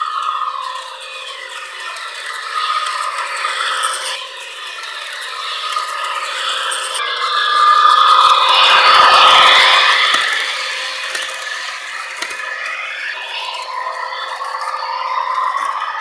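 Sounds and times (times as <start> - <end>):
model train motor whirring: 0.0 - 16.0
wheels rattling on rails: 0.0 - 16.0.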